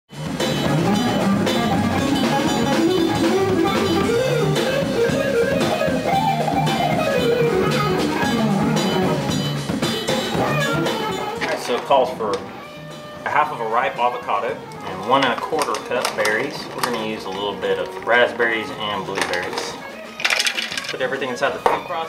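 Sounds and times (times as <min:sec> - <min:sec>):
guitar-led tune with drum beat: 0:00.1 - 0:22.0.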